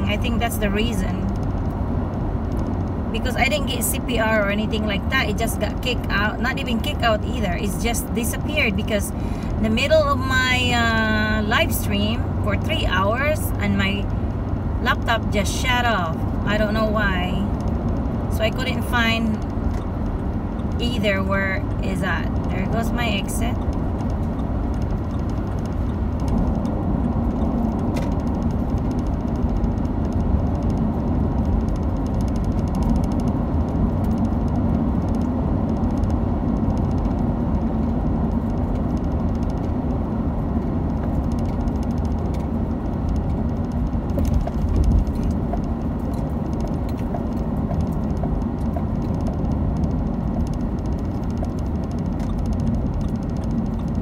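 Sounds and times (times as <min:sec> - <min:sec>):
car driving at speed: 0:00.0 - 0:54.0.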